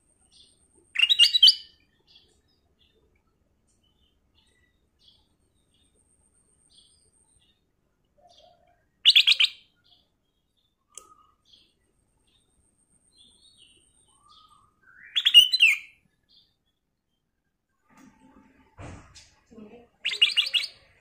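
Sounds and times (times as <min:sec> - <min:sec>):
bird singing phrases: 0:00.0 - 0:17.4, 0:19.5 - 0:21.0
faint bird chirps: 0:00.0 - 0:17.5, 0:19.5 - 0:21.0.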